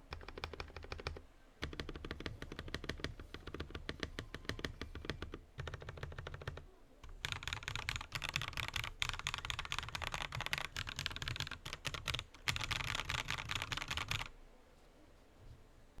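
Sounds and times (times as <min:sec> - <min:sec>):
mechanical keyboard typing: 0:00.0 - 0:14.3.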